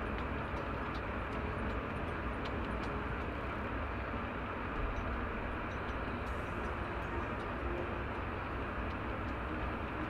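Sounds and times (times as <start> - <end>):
background rumble and hiss: 0.0 - 10.0.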